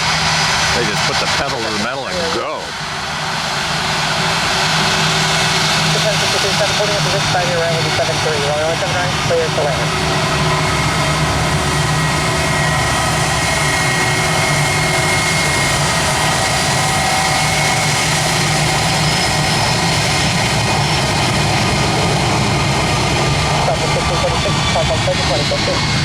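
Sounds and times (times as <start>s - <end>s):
high engine whine: 0.0s - 26.0s
jet engines rushing: 0.0s - 26.0s.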